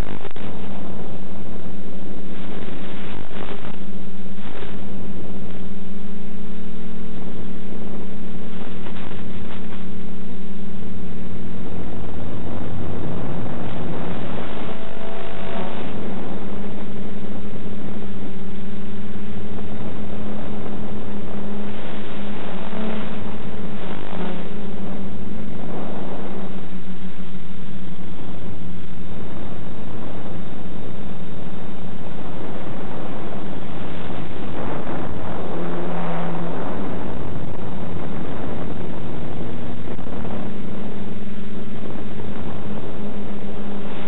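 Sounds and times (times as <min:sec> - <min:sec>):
drone motors humming: 0:00.0 - 0:44.0
static hiss: 0:00.0 - 0:44.0.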